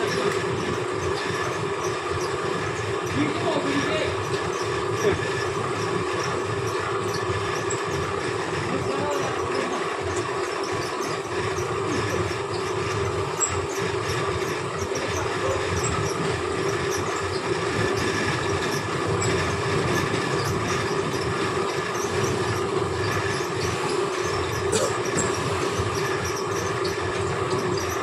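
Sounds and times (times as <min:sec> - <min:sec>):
machine hum and rumble: 0:00.0 - 0:28.0.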